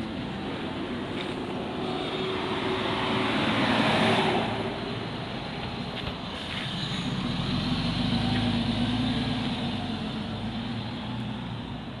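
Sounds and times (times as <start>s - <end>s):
bus engine pulling away: 0.0s - 12.0s.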